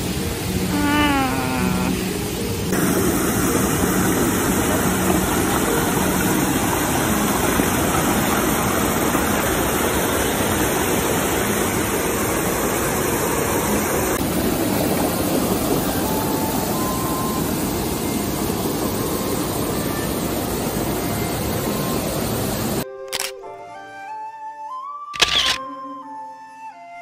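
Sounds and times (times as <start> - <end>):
river water rushing over boulders: 0.0 - 22.8.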